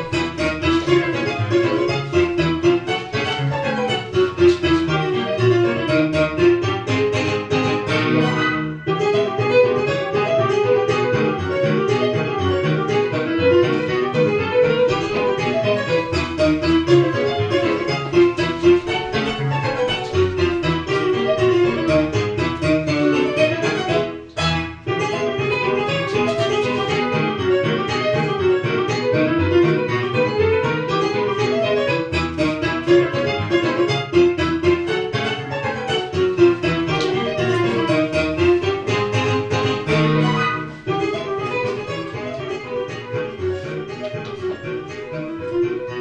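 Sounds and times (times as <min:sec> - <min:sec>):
instrumental music: 0:00.0 - 0:46.0
piano melody over bass notes: 0:00.0 - 0:46.0.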